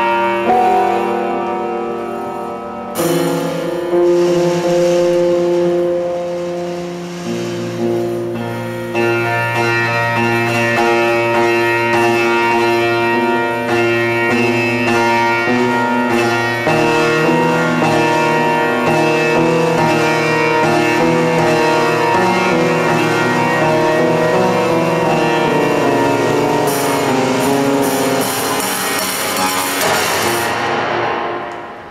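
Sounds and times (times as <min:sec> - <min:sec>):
grand piano playing: 0:00.0 - 0:31.9.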